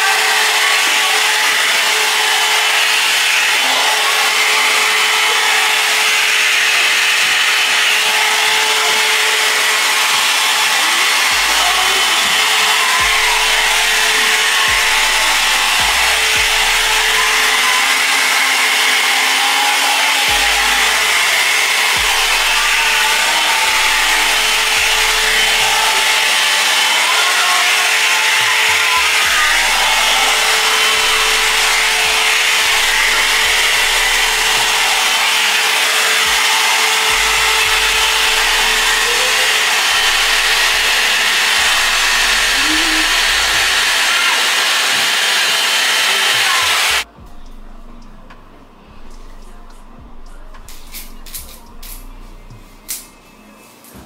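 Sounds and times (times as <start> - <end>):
hair dryer running: 0.0 - 47.2, 48.0 - 54.0.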